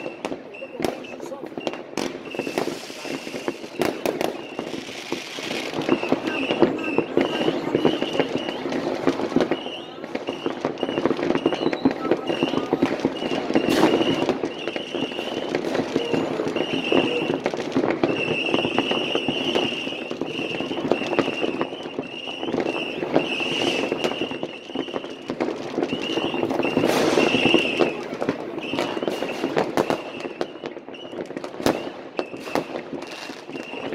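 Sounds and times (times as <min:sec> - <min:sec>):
firecrackers crackling: 0:00.0 - 0:33.9
firework bangs: 0:00.0 - 0:33.9.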